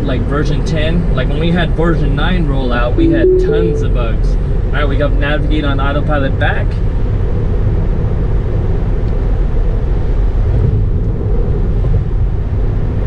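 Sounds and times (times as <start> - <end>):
road and tyre noise in car: 0.0 - 2.8, 4.8 - 13.0.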